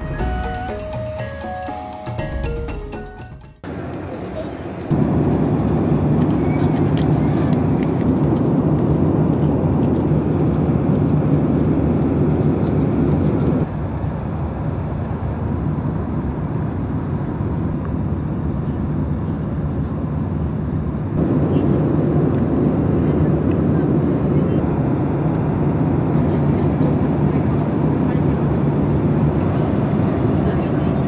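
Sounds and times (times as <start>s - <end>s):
vehicle rumble in motion: 3.6s - 31.0s.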